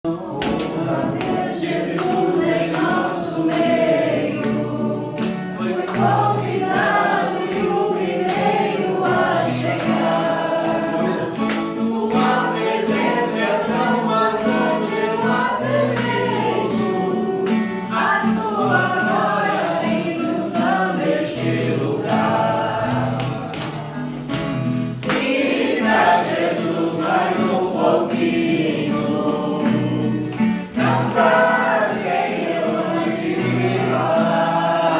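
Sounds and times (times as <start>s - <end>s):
group singing praise song: 0.1s - 34.9s.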